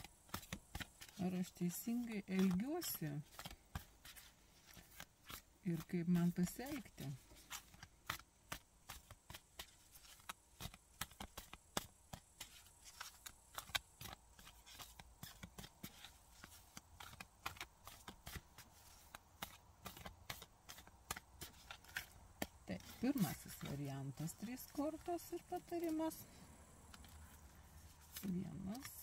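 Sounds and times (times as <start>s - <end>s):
cards being shuffled: 0.0s - 29.0s.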